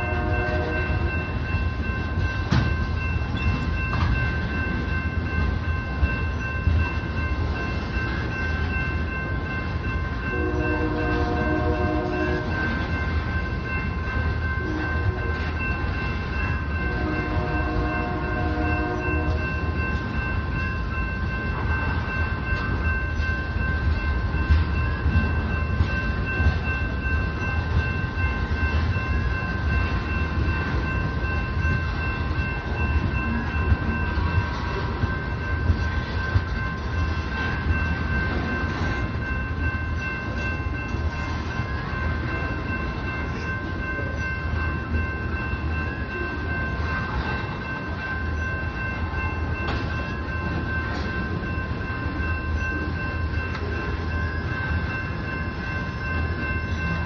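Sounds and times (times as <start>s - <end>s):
train cars rumbling on rails: 0.0s - 57.0s
train clanks: 0.0s - 57.0s.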